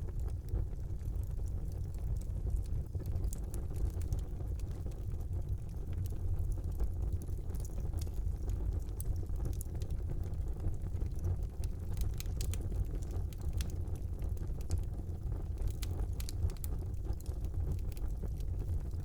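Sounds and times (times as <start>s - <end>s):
fire crackles and pops: 0.0s - 19.0s
fire flames rumbling: 0.0s - 19.0s.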